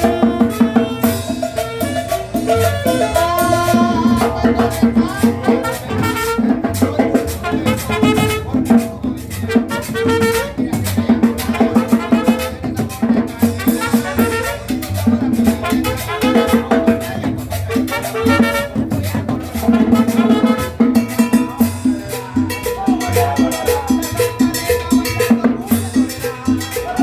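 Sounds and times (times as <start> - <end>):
salsa dance music with brass: 0.0 - 27.0.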